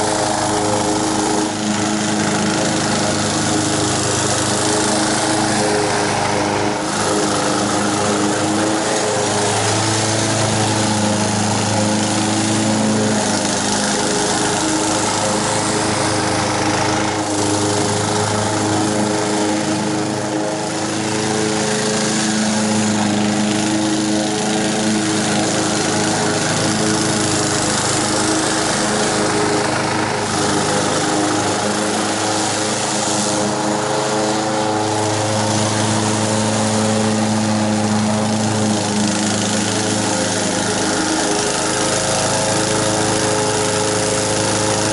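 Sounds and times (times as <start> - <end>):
lawn mower engine cutting grass: 0.0 - 44.9.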